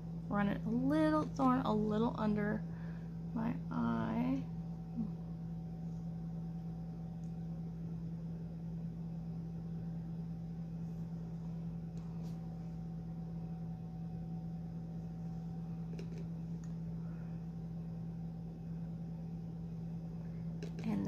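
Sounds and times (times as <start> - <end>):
low hum with higher tone: 0.0 - 21.0.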